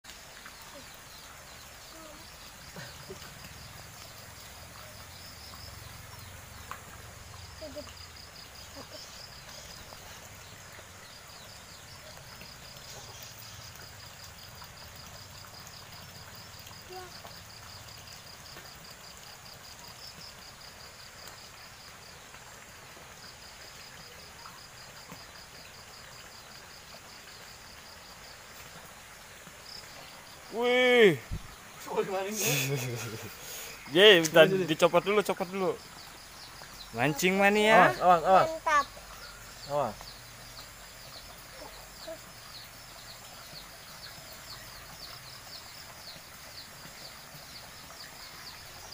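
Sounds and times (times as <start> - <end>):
insects chirping: 0.0 - 48.9.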